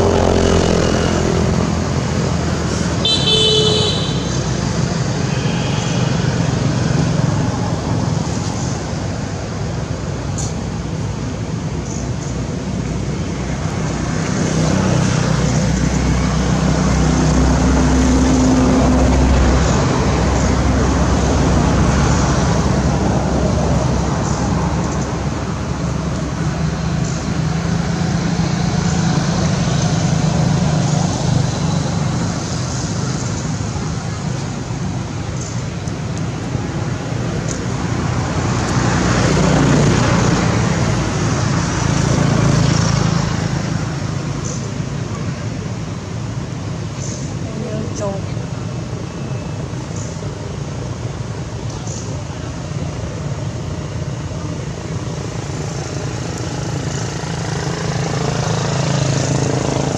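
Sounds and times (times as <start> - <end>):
vehicle engine running: 0.0 - 5.2, 6.5 - 59.9
outdoor rumble and hiss: 0.0 - 59.9
road noise: 0.0 - 59.9.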